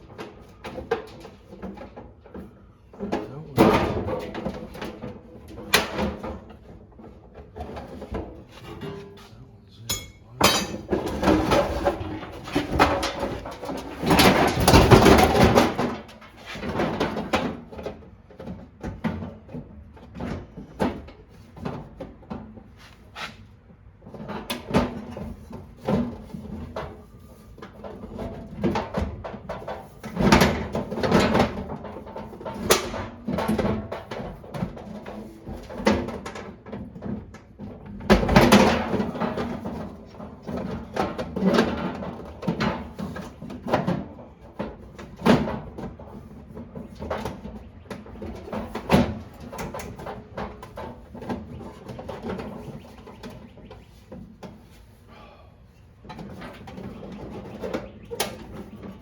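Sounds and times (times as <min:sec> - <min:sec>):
tools and parts clattering: 0:00.0 - 0:09.3, 0:09.9 - 0:22.6, 0:24.0 - 0:55.0.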